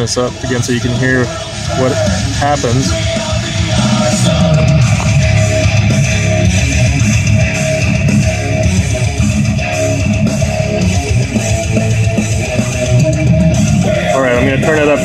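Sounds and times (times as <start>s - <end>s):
rock music through car speakers: 0.0s - 15.0s.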